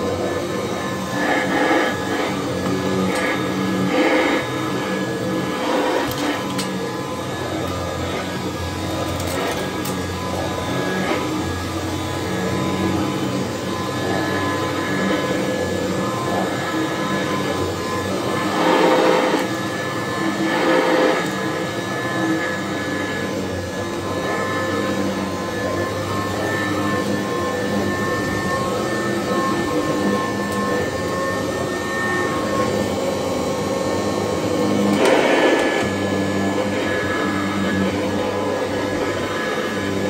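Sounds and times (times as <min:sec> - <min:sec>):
upright vacuum cleaner running: 0:00.0 - 0:40.0.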